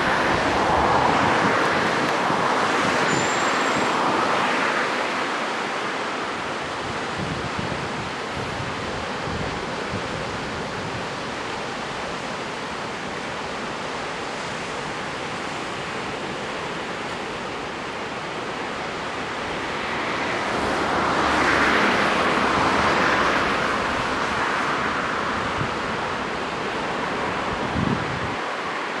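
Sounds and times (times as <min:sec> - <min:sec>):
ocean surf washing on beach: 0:00.0 - 0:29.0.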